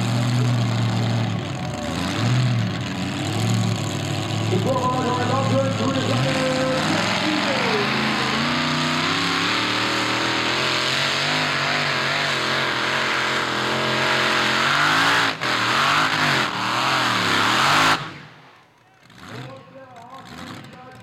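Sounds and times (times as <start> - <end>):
tractor engine at full revs: 0.0 - 21.0.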